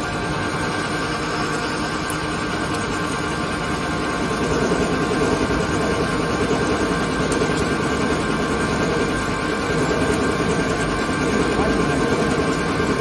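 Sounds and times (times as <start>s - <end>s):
lathe running with high whine: 0.0s - 13.0s.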